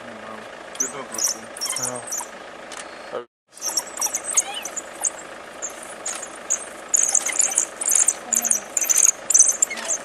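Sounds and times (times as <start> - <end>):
wild dogs chirping: 0.7 - 10.0.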